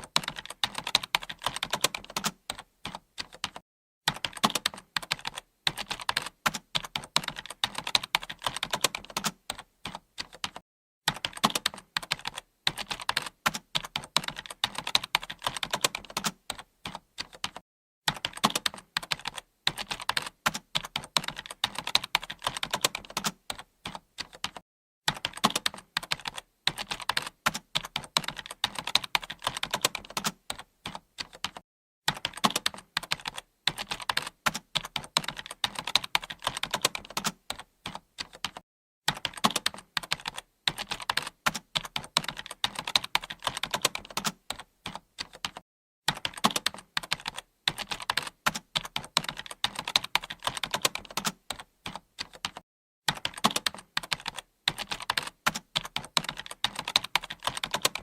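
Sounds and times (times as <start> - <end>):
keyboard typing clicks: 0.0 - 58.0.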